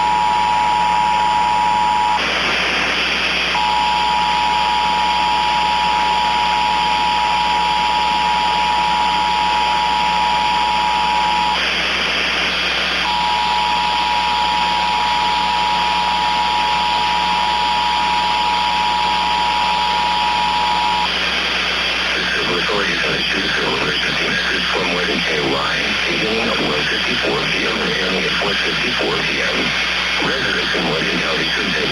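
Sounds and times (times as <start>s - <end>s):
loud static hiss: 2.1s - 31.9s.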